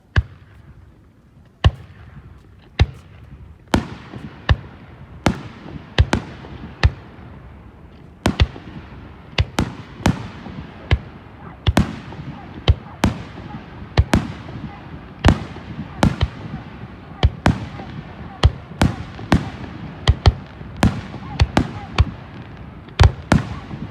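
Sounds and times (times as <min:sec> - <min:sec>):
fireworks crackling: 0:00.0 - 0:23.9.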